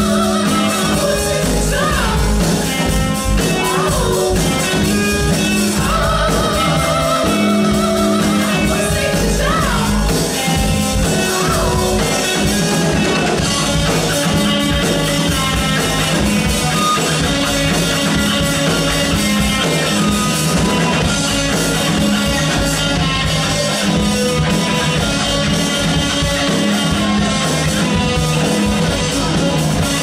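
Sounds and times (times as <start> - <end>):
distorted electric guitar: 0.0 - 30.0
drum kit: 0.0 - 30.0
electric bass: 0.0 - 30.0.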